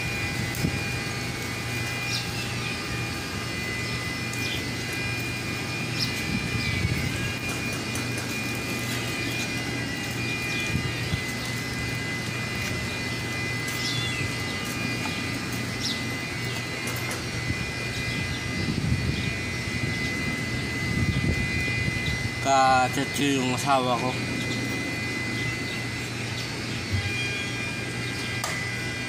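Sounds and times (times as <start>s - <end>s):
high-pitched whine: 0.0s - 29.0s
low hum: 0.0s - 29.0s
workshop machinery drone: 0.0s - 29.0s.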